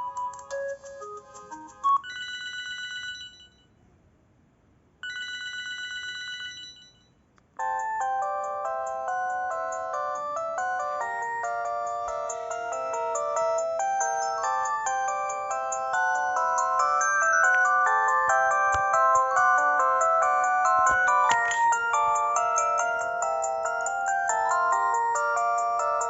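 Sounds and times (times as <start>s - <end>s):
polyphonic phone ringtone: 0.0s - 3.7s, 5.0s - 26.0s.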